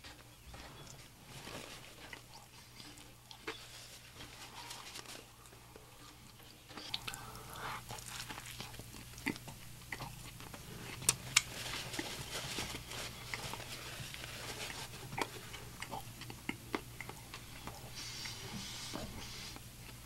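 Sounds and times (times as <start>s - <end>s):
close chewing with mouth smacks: 0.0s - 20.0s.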